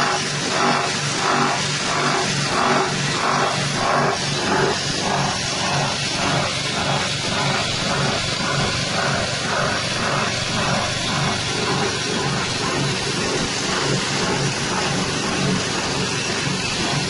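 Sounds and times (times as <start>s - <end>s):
grinding mill engine running: 0.0s - 17.0s.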